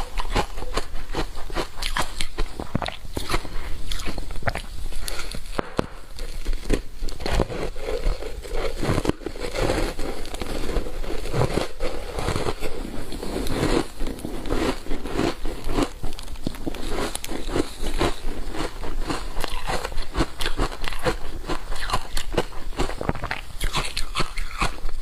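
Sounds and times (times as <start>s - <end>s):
chewing ice crunches: 0.0s - 5.4s, 6.5s - 25.0s.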